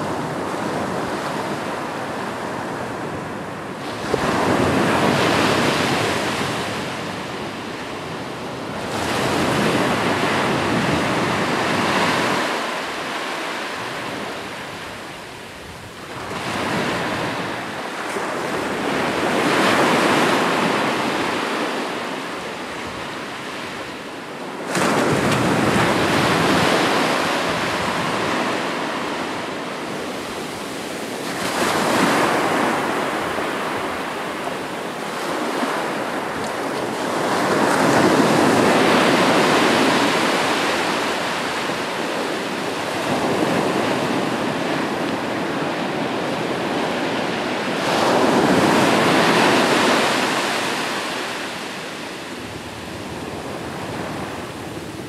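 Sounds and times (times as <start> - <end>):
waves washing up the shore: 0.0 - 55.0.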